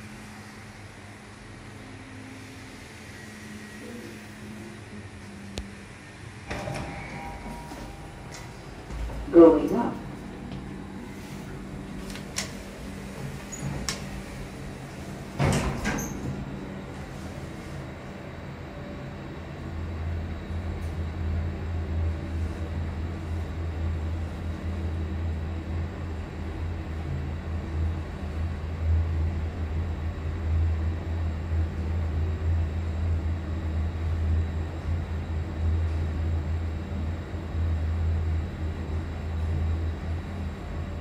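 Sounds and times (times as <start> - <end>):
lift car humming and rushing: 0.0 - 41.0.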